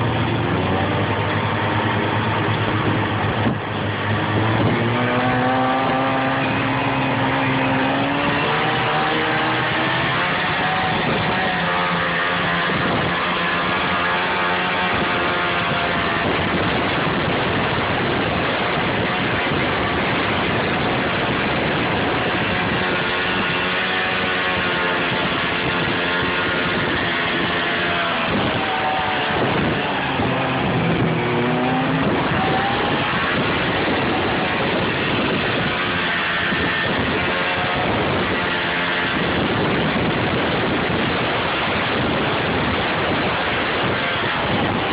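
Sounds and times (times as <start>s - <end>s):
rushing noise: 0.0s - 44.9s
snowmobile engine revving: 0.0s - 44.9s.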